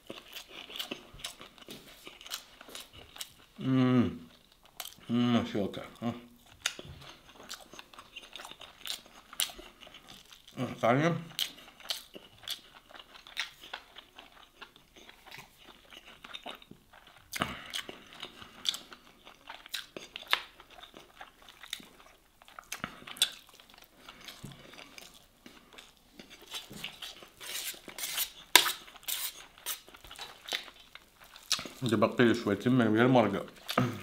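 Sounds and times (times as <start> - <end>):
close chewing and mouth sounds: 0.0 - 34.0.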